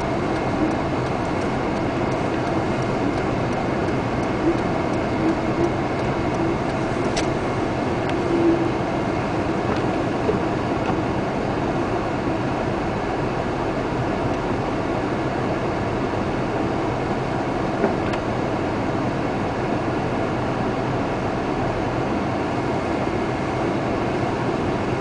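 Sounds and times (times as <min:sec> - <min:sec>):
car driving through rain: 0:00.0 - 0:25.0.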